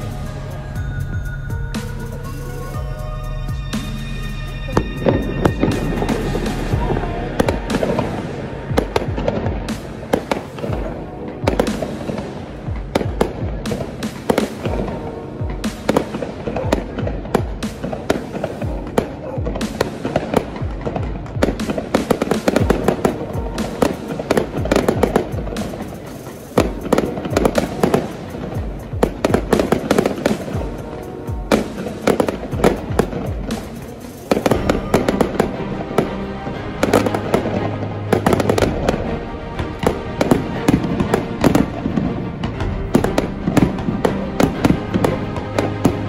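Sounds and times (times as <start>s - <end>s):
fireworks bursting and crackling: 0.0s - 46.0s
music: 0.0s - 46.0s.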